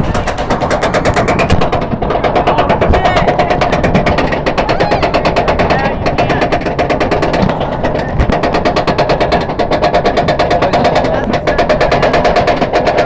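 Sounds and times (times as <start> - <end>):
roller coaster chain lift clacking: 0.0 - 13.0.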